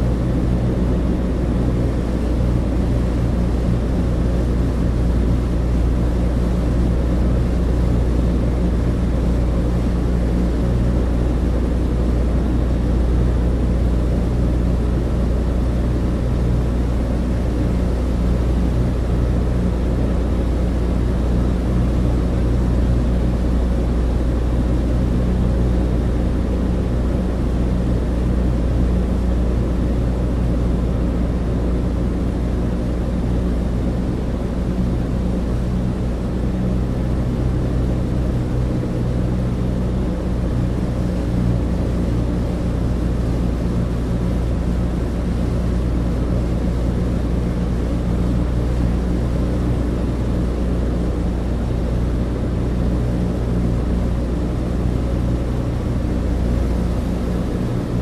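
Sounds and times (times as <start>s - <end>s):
propeller engines droning: 0.0s - 58.0s.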